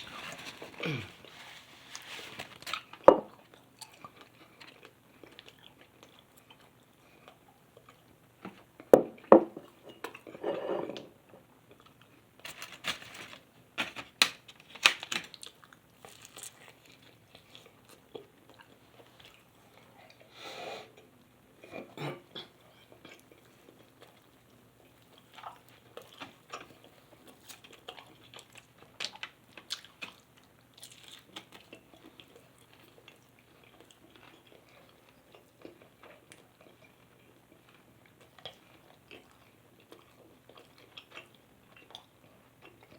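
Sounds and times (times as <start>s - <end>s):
person chewing food: 0.0s - 10.4s, 15.3s - 20.3s, 21.7s - 42.9s.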